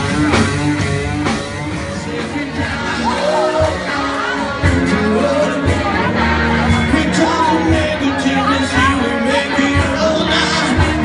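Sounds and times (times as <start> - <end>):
bass guitar: 0.0 - 11.0
distorted electric guitar: 0.0 - 11.0
drums: 0.0 - 11.0
person singing: 1.7 - 11.0.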